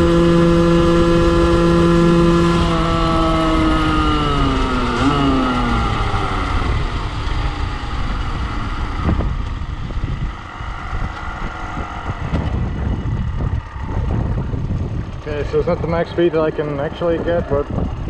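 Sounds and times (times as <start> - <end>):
two-stroke engine slowing down: 0.0 - 18.0
wind noise on microphone: 0.0 - 18.0.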